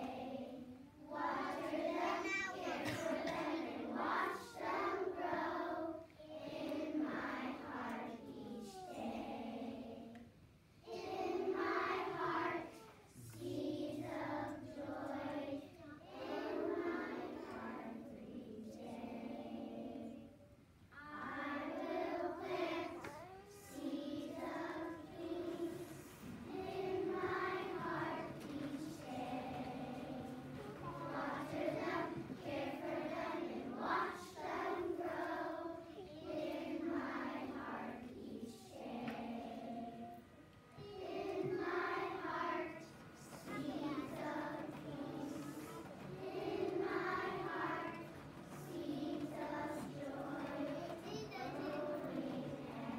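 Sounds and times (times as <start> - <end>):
children's choir singing: 0.0 - 52.9.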